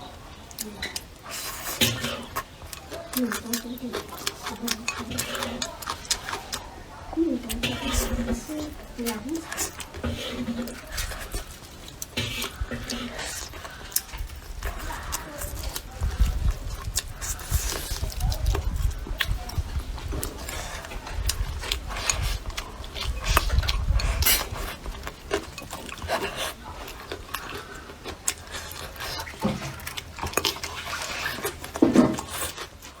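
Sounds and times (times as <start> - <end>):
chewing and gnawing: 0.0 - 33.0.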